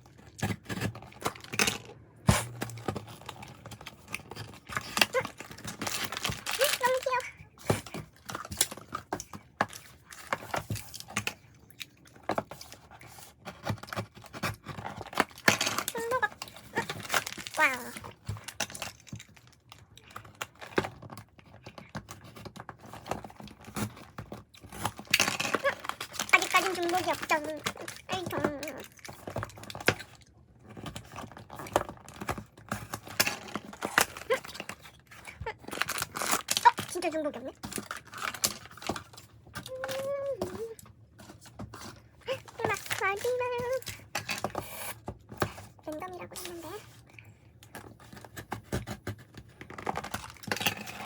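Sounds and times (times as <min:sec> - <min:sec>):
plastic wrappers crinkling: 0:00.0 - 0:51.0.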